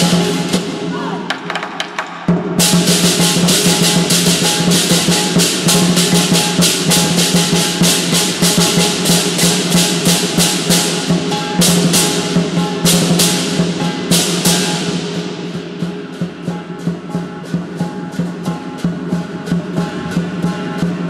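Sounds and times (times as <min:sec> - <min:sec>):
cymbals crashing: 0:00.0 - 0:21.0
large drum beaten fast: 0:00.0 - 0:21.0.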